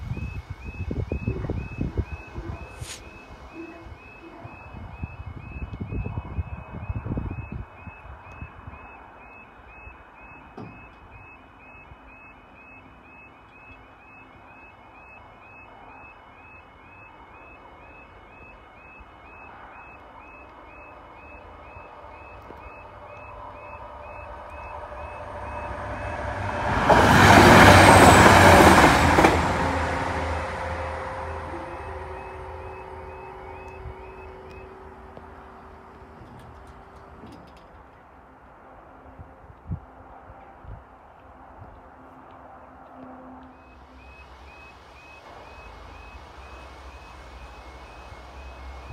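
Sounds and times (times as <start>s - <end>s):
level crossing alarm warbling: 0.0s - 36.0s, 43.6s - 48.9s
train engine tones: 0.0s - 38.0s, 43.0s - 48.9s
diesel train passing: 0.0s - 48.9s.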